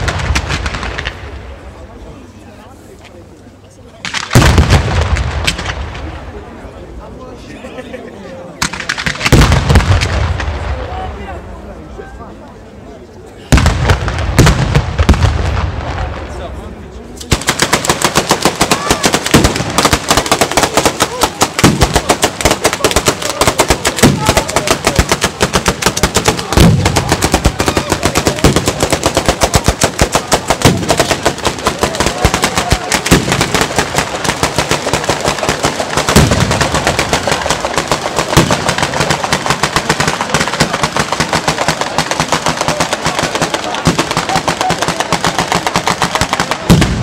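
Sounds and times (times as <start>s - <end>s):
heavy firework bangs: 0.0s - 1.8s, 4.0s - 6.4s, 8.6s - 11.1s, 13.5s - 16.6s, 17.2s - 47.0s
rapid crackle of firecrackers: 0.0s - 3.2s, 3.9s - 6.9s, 8.5s - 11.3s, 13.4s - 47.0s.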